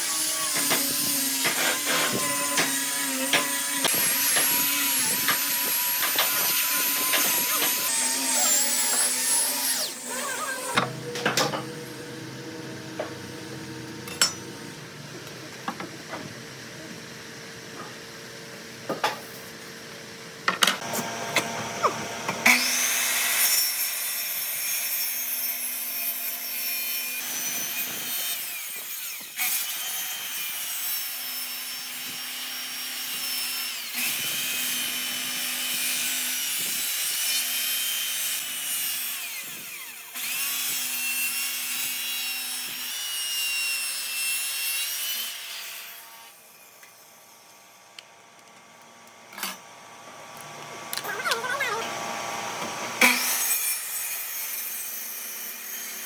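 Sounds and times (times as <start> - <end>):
power tool cutting wood: 0.0 - 14.9, 20.7 - 48.0, 50.7 - 56.0.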